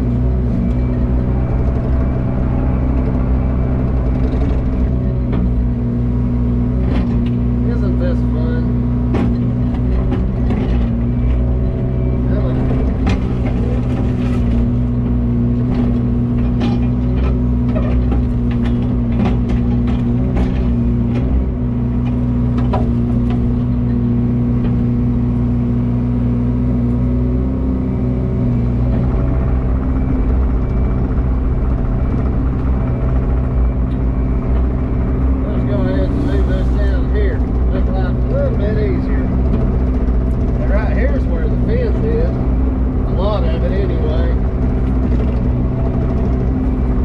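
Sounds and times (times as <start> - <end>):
heavy machine engine running: 0.0 - 47.0.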